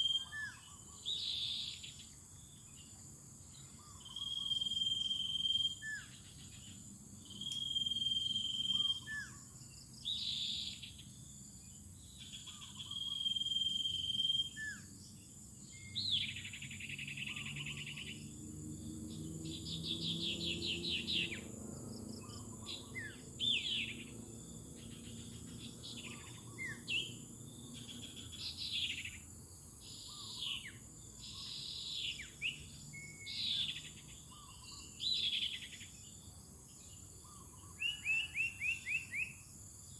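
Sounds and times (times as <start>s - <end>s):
high insect drone: 0.1s - 37.9s.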